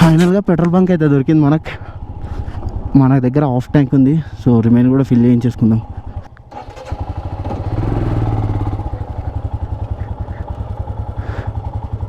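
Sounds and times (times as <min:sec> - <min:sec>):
motorcycle engine idling: 0:01.3 - 0:12.0.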